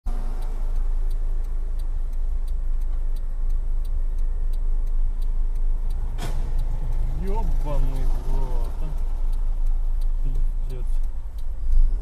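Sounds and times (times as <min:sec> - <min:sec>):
road vehicle driving rumble: 0:00.0 - 0:12.0
faint regular ticking: 0:00.1 - 0:12.0.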